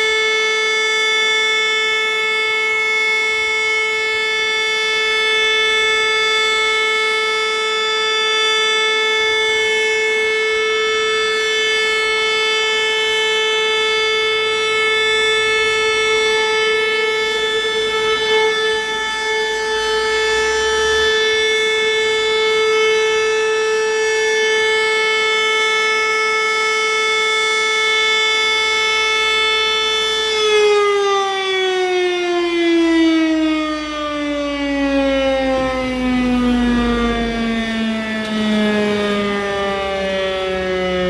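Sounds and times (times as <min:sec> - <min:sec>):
siren winding down: 0:00.0 - 0:41.0.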